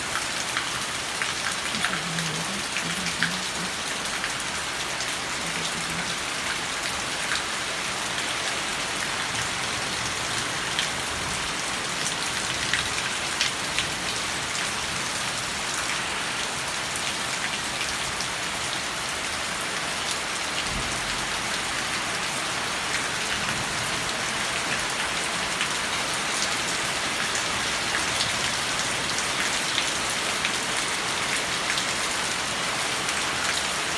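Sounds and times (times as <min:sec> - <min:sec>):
raindrops ticking on a surface: 0:00.0 - 0:33.9
steady rain hiss: 0:00.0 - 0:33.9.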